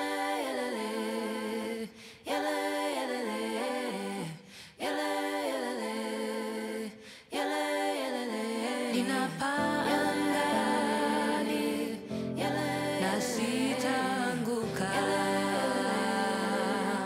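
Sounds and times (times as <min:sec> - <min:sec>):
a cappella voices singing: 0:00.0 - 0:17.0.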